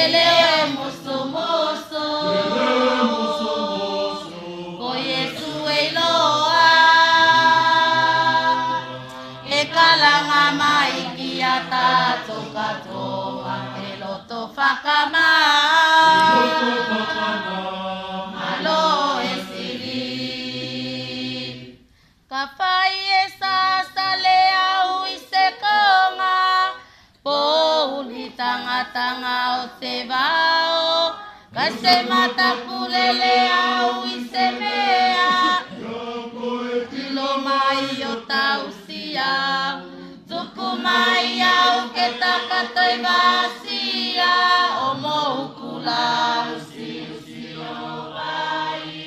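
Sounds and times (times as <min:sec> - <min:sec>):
youth choir singing a hymn: 0:00.0 - 0:21.8, 0:27.4 - 0:49.0.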